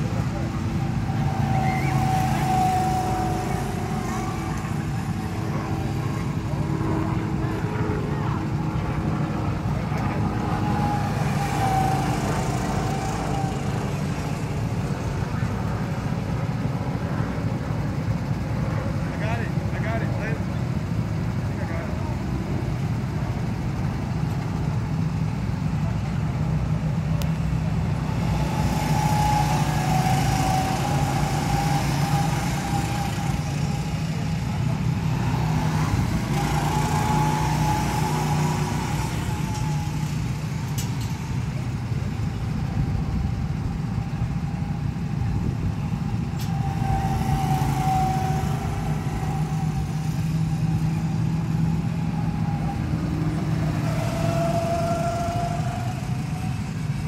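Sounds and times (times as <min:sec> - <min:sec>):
go-kart engines humming and whining: 0:00.0 - 0:57.0.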